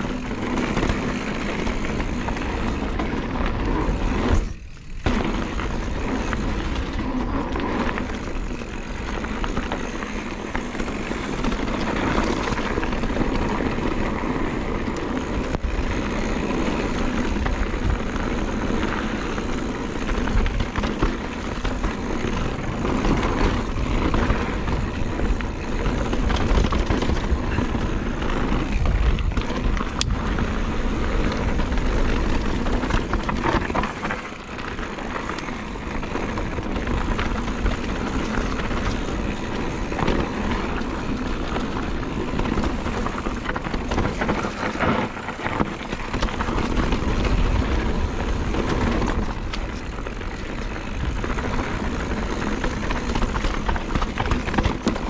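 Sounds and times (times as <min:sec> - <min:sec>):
bike rolling and rattling: 0:00.0 - 0:55.0.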